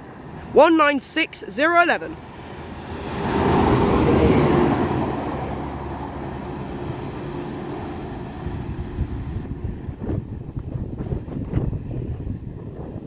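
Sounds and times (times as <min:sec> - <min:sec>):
diesel train rumbling past: 0:00.0 - 0:01.3, 0:01.9 - 0:13.0
wind buffeting microphone: 0:02.4 - 0:13.0.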